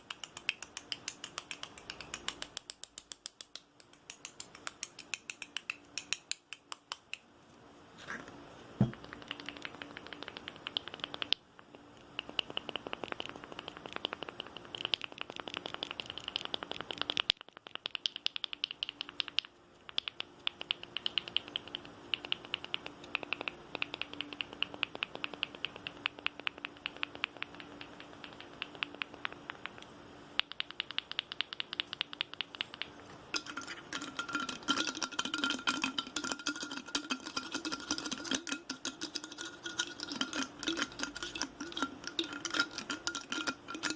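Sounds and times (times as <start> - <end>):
rapid fingernail tapping: 0.0 - 7.2, 8.8 - 43.9.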